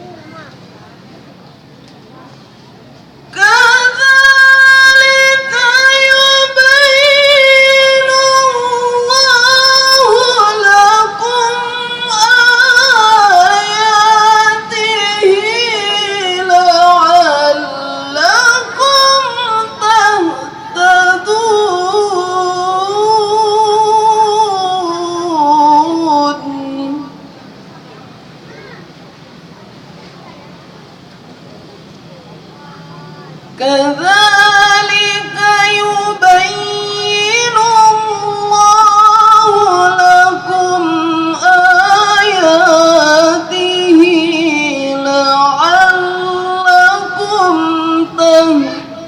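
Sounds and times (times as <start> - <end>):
woman chanting recitation: 3.3 - 27.3, 32.5 - 49.0.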